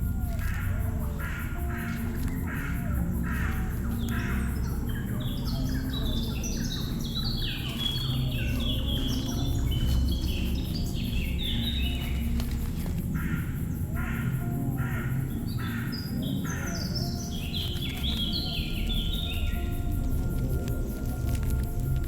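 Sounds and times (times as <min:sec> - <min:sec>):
birds chirping: 0:00.0 - 0:22.0
harsh hoarse bird calls: 0:00.0 - 0:22.0.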